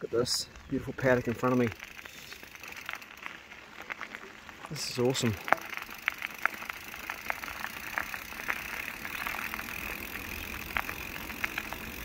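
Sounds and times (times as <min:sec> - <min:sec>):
bicycle tyre noise: 0:00.0 - 0:12.0
bike clicks and rattles: 0:00.2 - 0:12.0.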